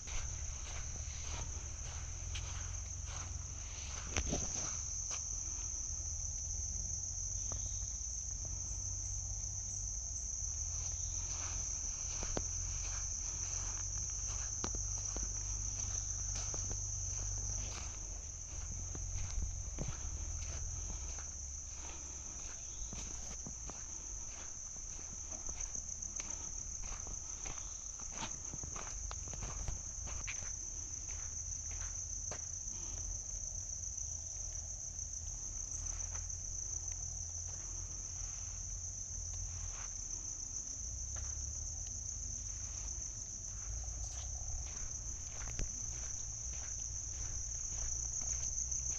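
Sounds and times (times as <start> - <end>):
footsteps in undergrowth: 0.0 - 48.9
insects chorus: 0.0 - 48.9.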